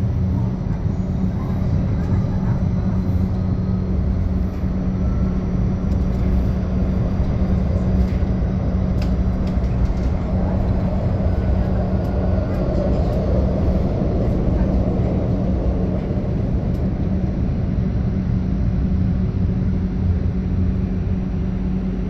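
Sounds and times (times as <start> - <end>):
tram wheels rumbling on rail: 0.0 - 22.0.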